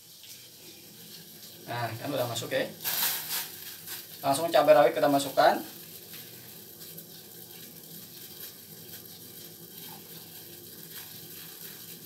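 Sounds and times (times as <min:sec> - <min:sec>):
water boiling in a saucepan: 0:00.0 - 0:12.0.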